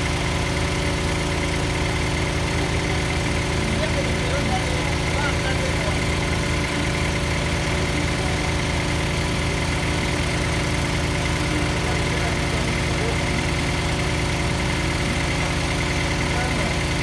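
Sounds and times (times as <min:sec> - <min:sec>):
drilling rig engine throbbing: 0:00.0 - 0:17.0.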